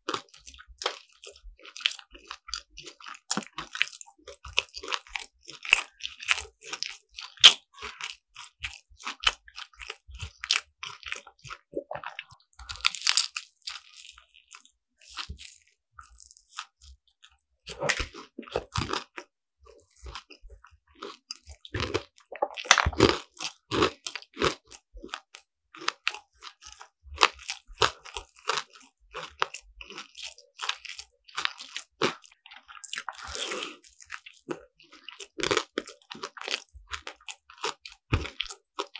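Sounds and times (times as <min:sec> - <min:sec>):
crunching and chewing pastry: 0:00.0 - 0:38.9.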